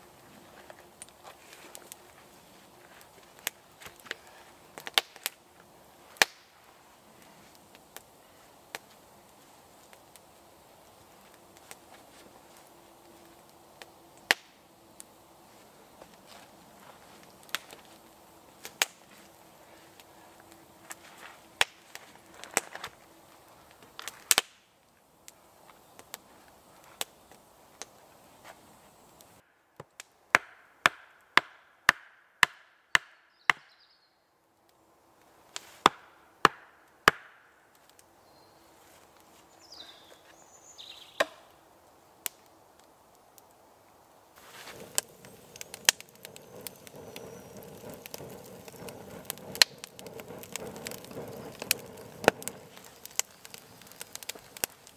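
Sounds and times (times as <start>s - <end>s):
campfire crackling: 0.0s - 32.0s, 34.4s - 54.9s.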